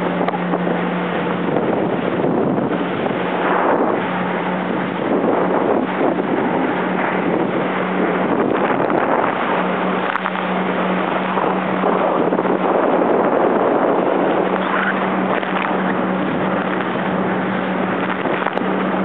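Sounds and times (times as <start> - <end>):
jet ski engine running: 0.0 - 19.0
water noise: 0.0 - 19.0
wind noise on microphone: 0.0 - 19.0.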